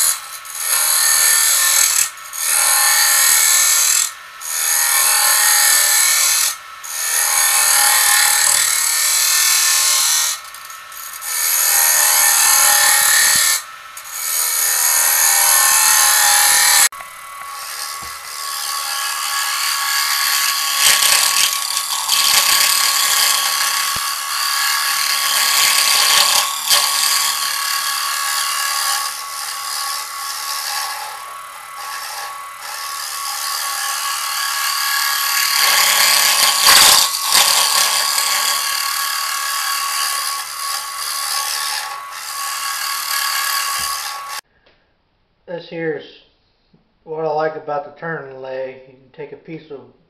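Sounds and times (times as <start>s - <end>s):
gouge scraping wood on lathe: 0.0s - 44.4s
steady lathe whine: 0.0s - 44.4s.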